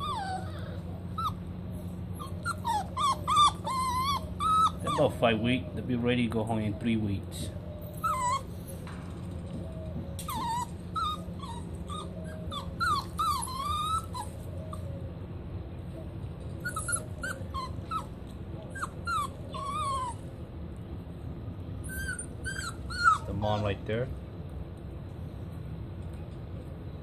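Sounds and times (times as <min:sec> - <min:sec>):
puppies whimpering and whining: 0:00.0 - 0:20.7, 0:21.7 - 0:24.1
steady low hum: 0:00.0 - 0:27.0.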